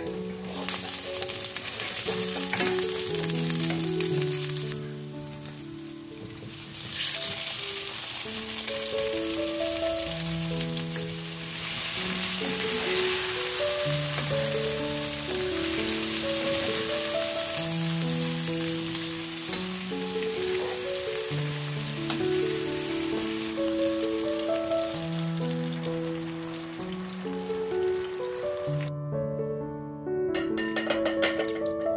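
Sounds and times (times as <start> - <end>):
food sizzling in oil: 0.0 - 28.9
background music: 0.0 - 31.9.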